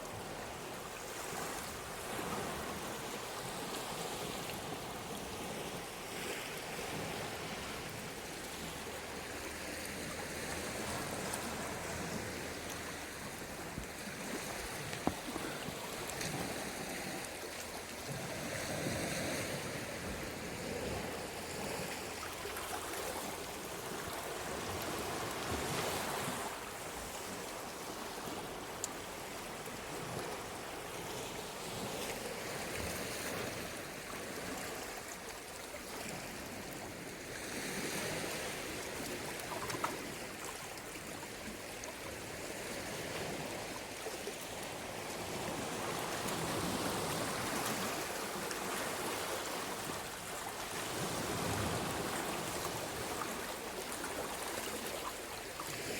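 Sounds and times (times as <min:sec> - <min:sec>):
sea waves washing ashore: 0:00.0 - 0:55.9.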